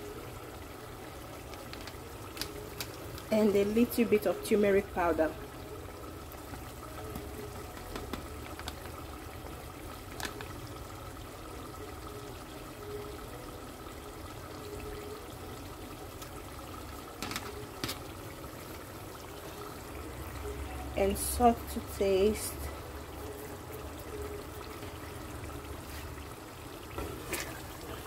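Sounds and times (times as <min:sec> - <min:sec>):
stew bubbling in pot: 0:00.0 - 0:28.0.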